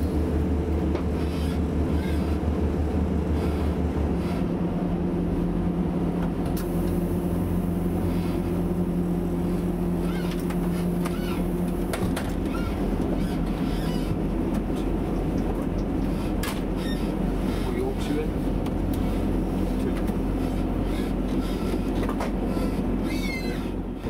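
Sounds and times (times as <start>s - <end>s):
train diesel engine running: 0.0s - 24.0s.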